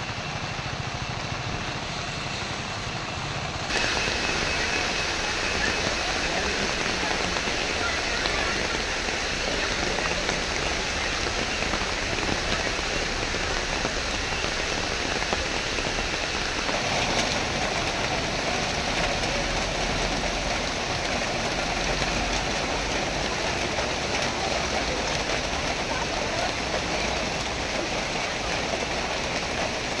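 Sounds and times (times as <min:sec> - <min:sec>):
rain pouring on road: 0:00.0 - 0:30.0.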